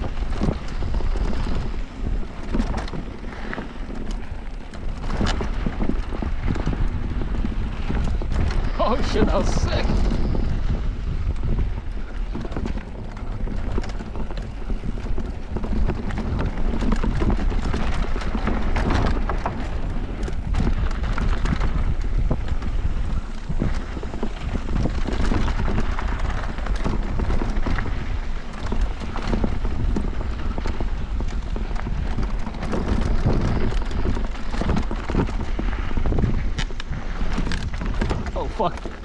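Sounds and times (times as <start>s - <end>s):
bike knocking and rattling: 0.0s - 39.0s
bike tyres rumbling on dirt trail: 0.0s - 39.0s
wind buffeting the microphone: 0.0s - 39.0s.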